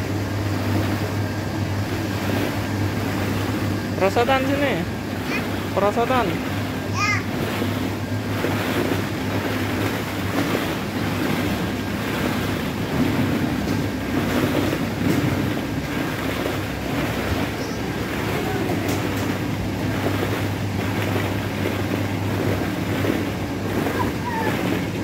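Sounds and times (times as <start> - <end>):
low indoor hum: 0.0 - 25.0.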